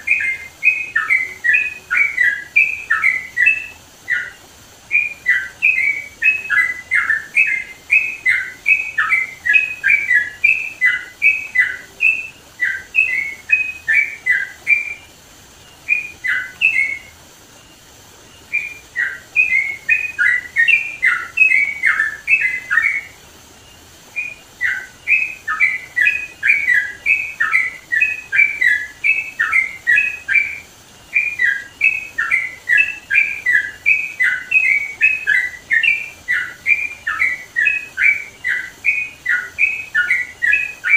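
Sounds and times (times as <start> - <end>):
bird singing bubbly chattering notes: 0.0 - 40.9.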